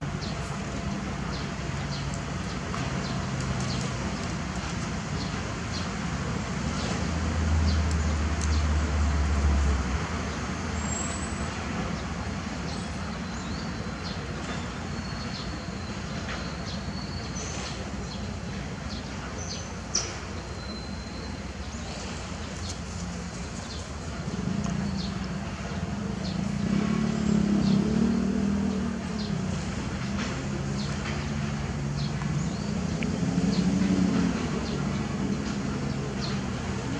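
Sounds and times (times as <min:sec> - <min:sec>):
background traffic noise: 0:00.0 - 0:36.9
heavy low engine rumble: 0:00.0 - 0:36.9.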